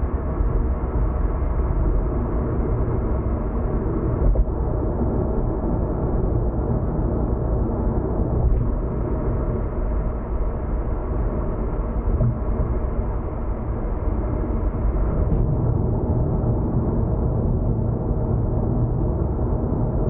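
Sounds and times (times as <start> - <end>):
car driving at speed: 0.1 - 20.0.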